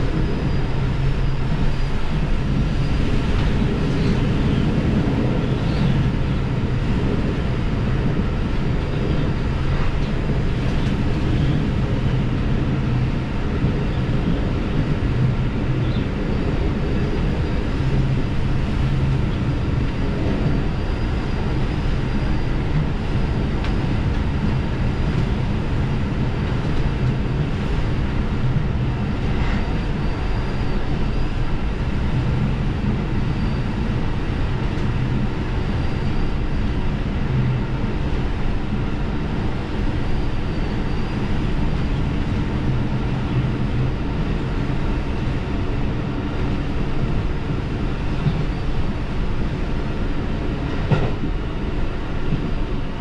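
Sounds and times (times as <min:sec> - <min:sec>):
diesel railcar droning: 0:00.0 - 0:53.0.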